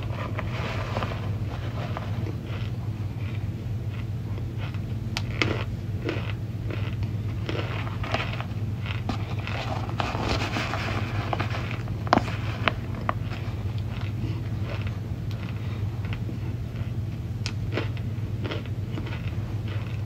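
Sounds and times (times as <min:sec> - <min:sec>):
hand crunching cornstarch chunks: 0:00.0 - 0:20.0
steady low hum: 0:00.0 - 0:20.0.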